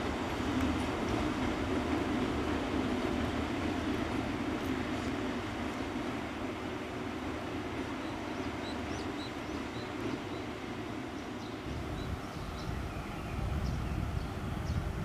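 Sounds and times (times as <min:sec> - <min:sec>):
electric locomotive rumbling: 0:00.0 - 0:15.0.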